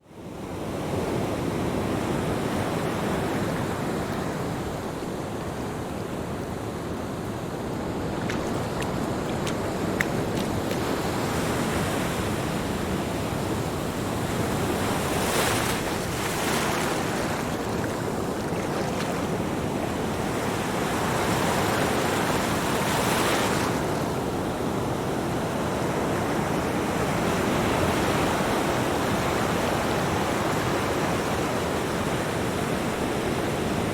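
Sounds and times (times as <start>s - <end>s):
ocean waves breaking on a beach: 0.0s - 33.9s.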